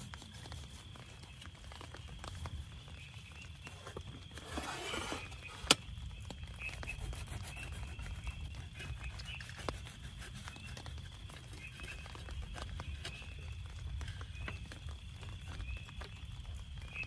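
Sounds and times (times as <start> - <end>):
rain pattering on a tent: 0.0 - 4.6, 5.2 - 17.0.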